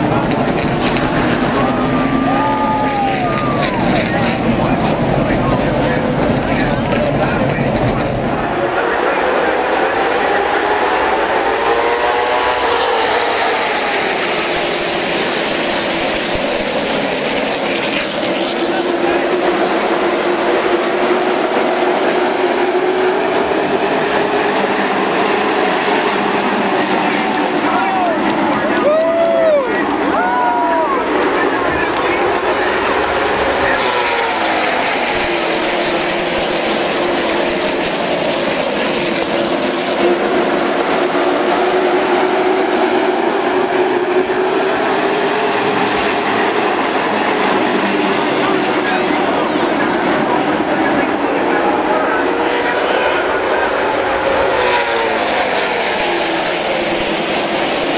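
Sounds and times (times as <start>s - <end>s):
race car engines droning: 0.0s - 57.9s.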